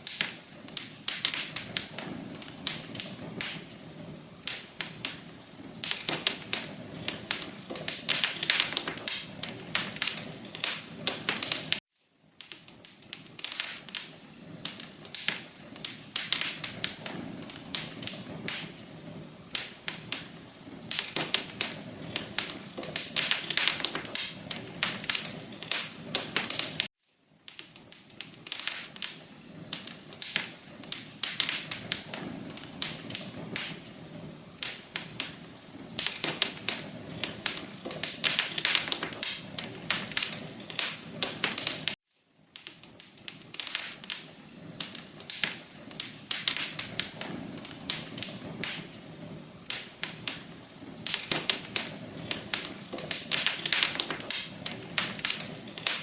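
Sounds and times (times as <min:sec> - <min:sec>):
fireplace crackling: 0:00.0 - 0:56.0.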